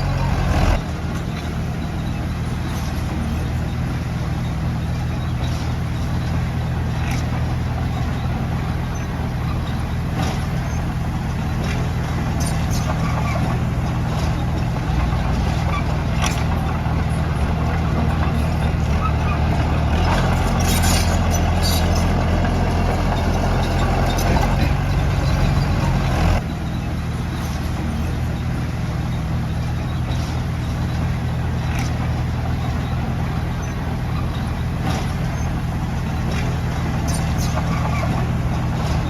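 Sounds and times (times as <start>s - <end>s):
heavy machine diesel engine: 0.0s - 39.0s.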